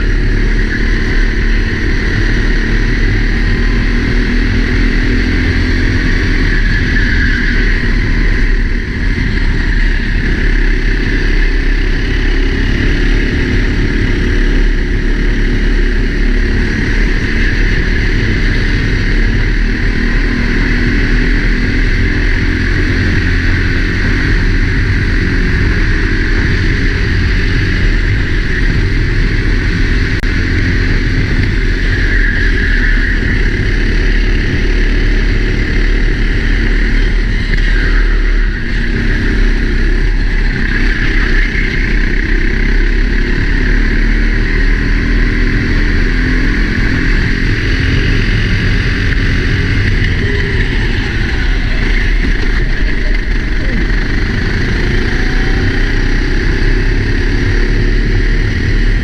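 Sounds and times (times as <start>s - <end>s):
kart engine revving: 0.0s - 59.0s
wind rushing on microphone: 0.0s - 59.0s.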